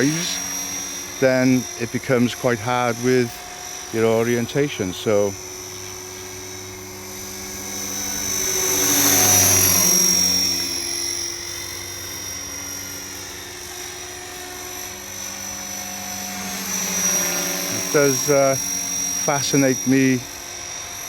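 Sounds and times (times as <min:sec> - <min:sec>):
rc helicopter motor whine: 0:00.0 - 0:21.0
rotor blades humming: 0:00.0 - 0:21.0.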